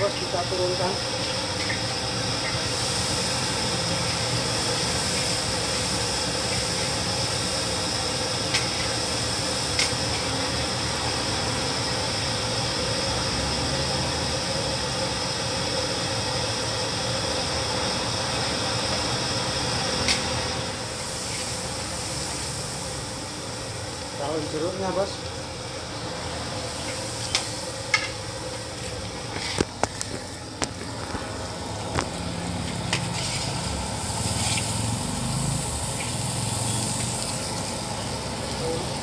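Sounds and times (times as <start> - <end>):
paste sizzling in hot oil: 0.0 - 39.0.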